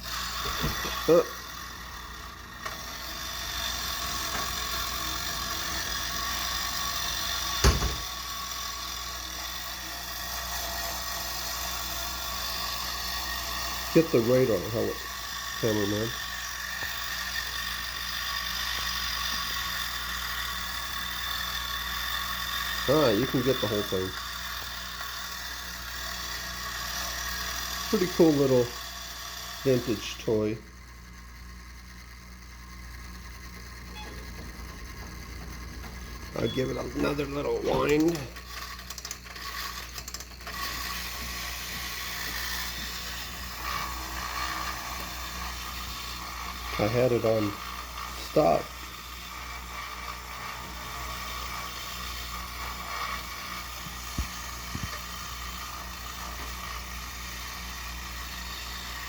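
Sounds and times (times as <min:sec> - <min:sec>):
clockwork toy motor whirring: 0:00.0 - 0:59.0
winder ratcheting: 0:00.0 - 0:59.0.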